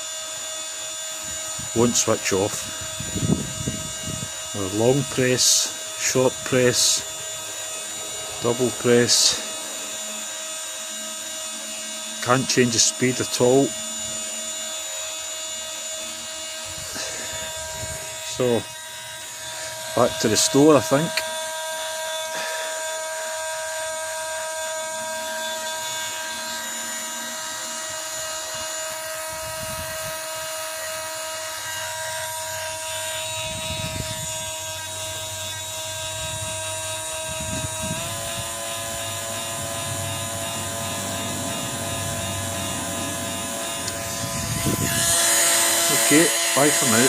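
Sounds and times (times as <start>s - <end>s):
power tool motor whining: 0.0s - 47.0s.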